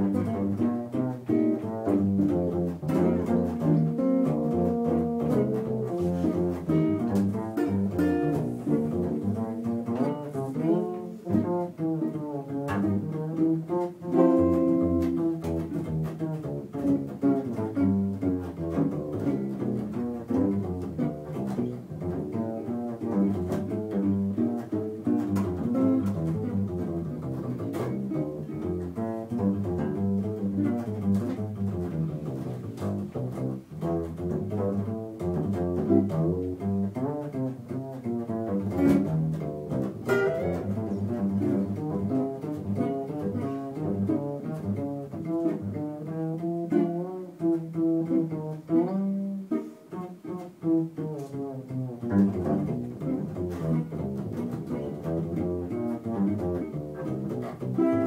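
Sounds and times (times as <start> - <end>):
plucked double bass: 0.0 - 58.0.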